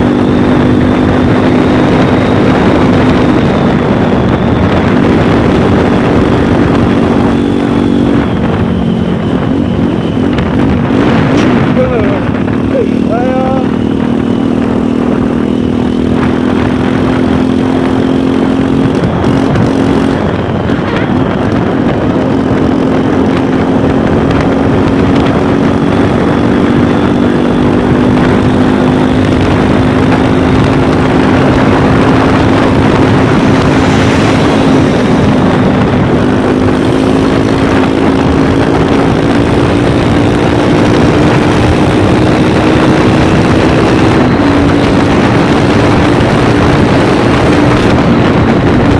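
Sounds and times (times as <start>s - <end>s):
loud rushing noise: 0.0s - 26.2s, 29.3s - 48.9s
motorcycle engine running: 0.0s - 48.9s.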